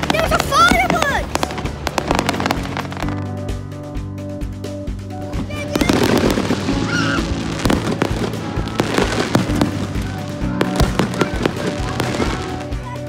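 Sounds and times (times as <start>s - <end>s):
fireworks bangs and crackles: 0.0s - 13.0s
music with held notes: 0.0s - 13.0s.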